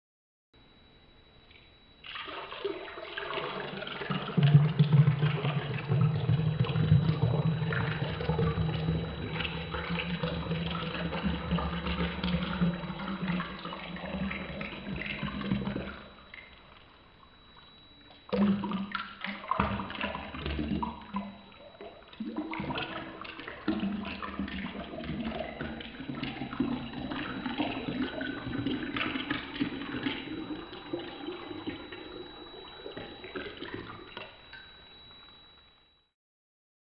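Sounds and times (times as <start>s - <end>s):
water pouring into a glass: 2.0s - 16.8s, 18.3s - 34.8s.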